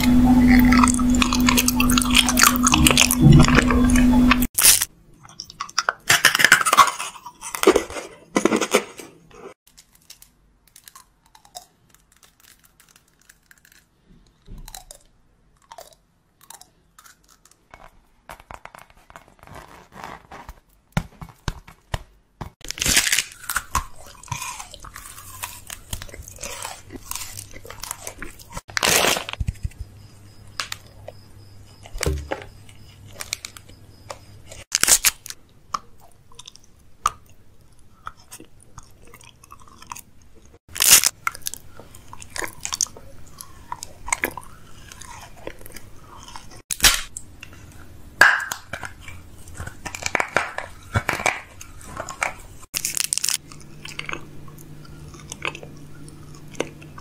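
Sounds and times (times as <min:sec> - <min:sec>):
crunching and chewing candy: 0:00.0 - 0:09.0, 0:09.6 - 0:20.6, 0:22.5 - 0:57.0.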